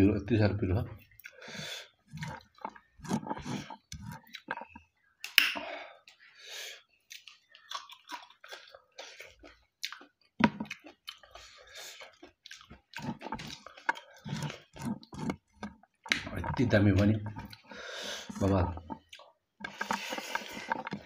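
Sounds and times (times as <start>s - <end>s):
wet mouth clicks and smacks: 1.0s - 1.4s, 2.1s - 6.2s, 7.0s - 17.7s, 18.3s - 21.0s
person chewing food: 1.0s - 21.0s.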